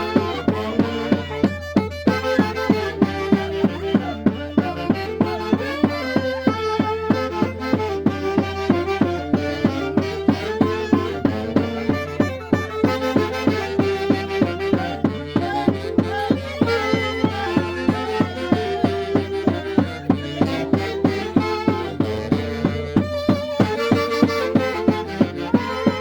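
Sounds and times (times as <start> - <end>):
steady drum beat: 0.0 - 26.0
violin melody: 0.0 - 26.0.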